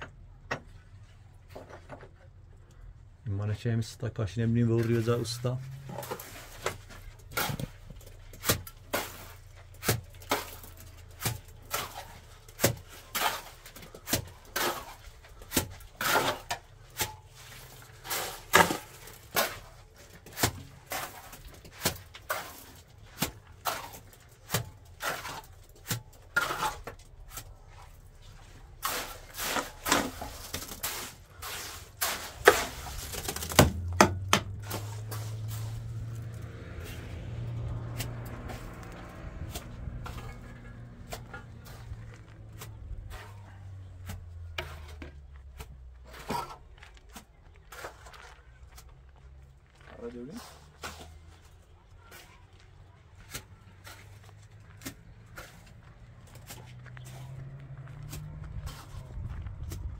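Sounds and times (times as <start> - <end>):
hand tools knocking and scraping: 4.6 - 49.3, 50.3 - 59.9.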